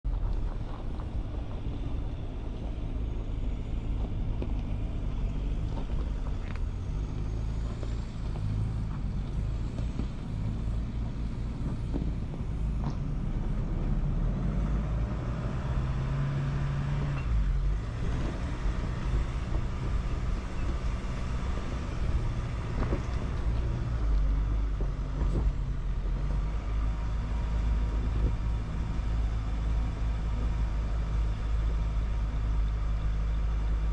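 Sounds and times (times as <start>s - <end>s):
vehicle engine running at low speed: 0.0s - 33.9s.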